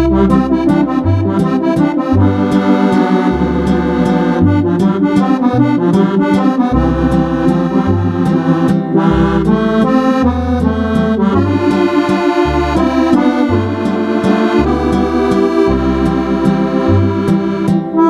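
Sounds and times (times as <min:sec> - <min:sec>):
electronic accordion playing: 0:00.0 - 0:18.0.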